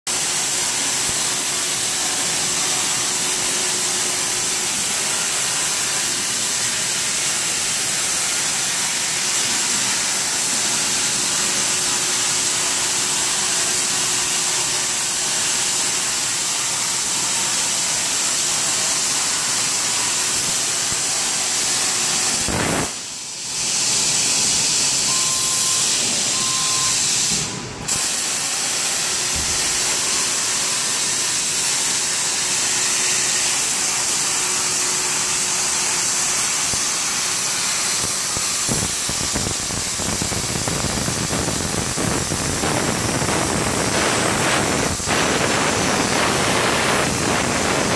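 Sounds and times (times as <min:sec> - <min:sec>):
plasma cutter torch hissing: 0:00.1 - 0:47.9.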